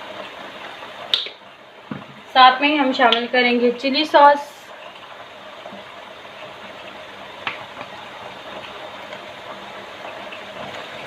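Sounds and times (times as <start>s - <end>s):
pasta sizzling in a pot: 0.0s - 11.0s.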